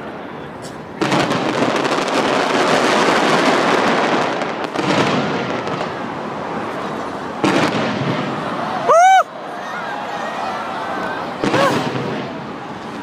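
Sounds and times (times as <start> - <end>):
fireworks crackling and popping: 0.0 - 9.0, 11.3 - 13.0.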